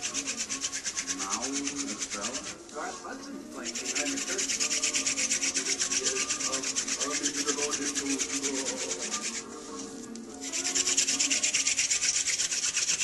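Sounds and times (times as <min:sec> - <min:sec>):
wooden spindle rasping on board: 0:00.0 - 0:02.6, 0:03.6 - 0:09.8, 0:10.4 - 0:13.0.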